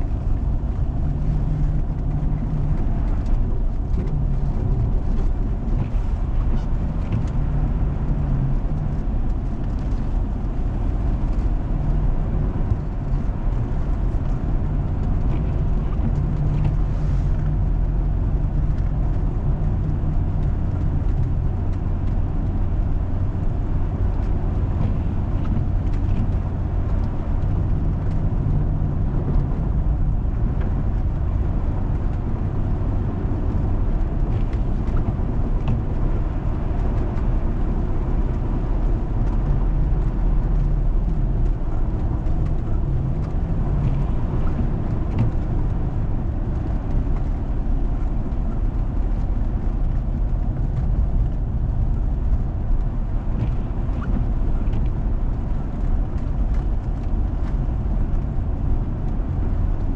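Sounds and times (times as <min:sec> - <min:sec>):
tyre and road noise: 0:00.0 - 0:59.9
vehicle engine drone: 0:00.0 - 0:59.9.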